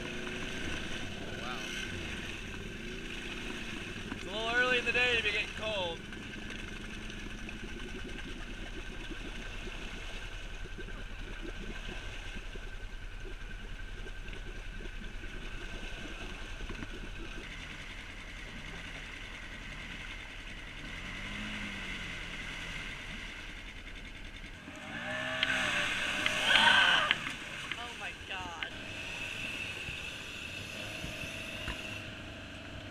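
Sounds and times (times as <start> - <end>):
off-road vehicle engines revving: 0.0 - 32.9.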